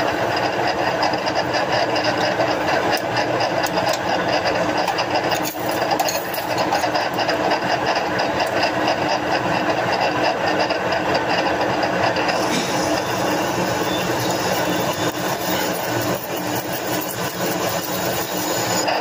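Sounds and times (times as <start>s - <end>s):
metal lathe humming: 0.0s - 19.0s.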